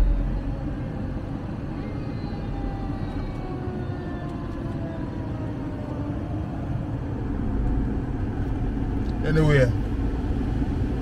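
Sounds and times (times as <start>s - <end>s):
car cabin road rumble: 0.0s - 5.0s, 5.7s - 11.0s.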